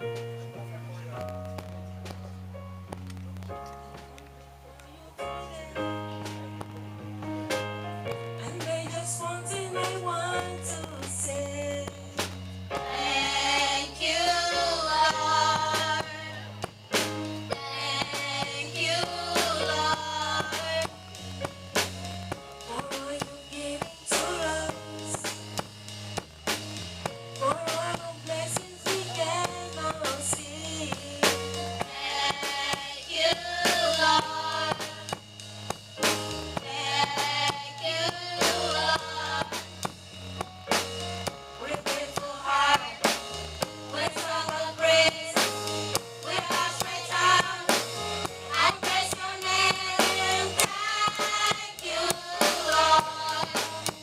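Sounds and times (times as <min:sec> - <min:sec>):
held bass notes: 0:00.0 - 0:54.0
choir singing gospel song: 0:08.2 - 0:25.7, 0:27.4 - 0:40.0, 0:40.7 - 0:54.0
drum hits: 0:09.8 - 0:54.0.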